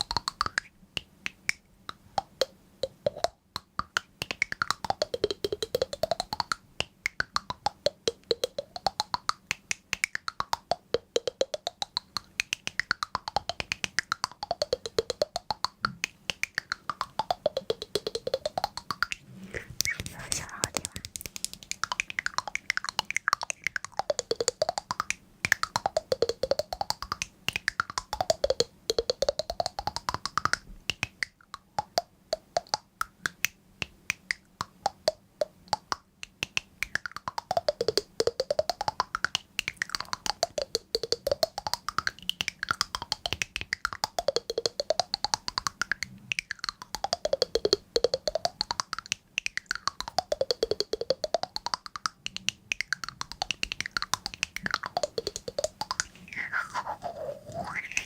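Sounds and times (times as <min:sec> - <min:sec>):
rapid crisp clicking: 0:00.0 - 0:19.2, 0:19.8 - 0:58.0.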